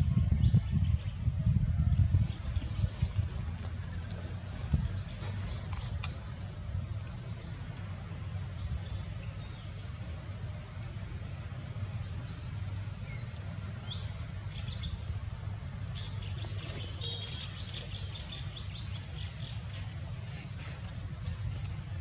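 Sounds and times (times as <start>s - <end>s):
insect buzz: 0.0s - 22.0s.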